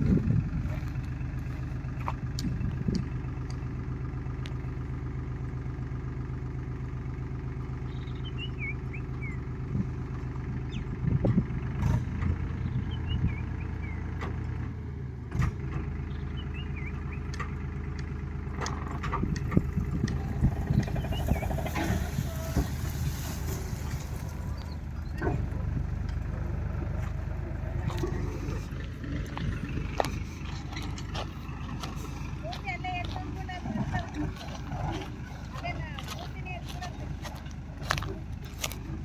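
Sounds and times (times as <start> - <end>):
diesel machinery engine running: 0.0 - 39.0.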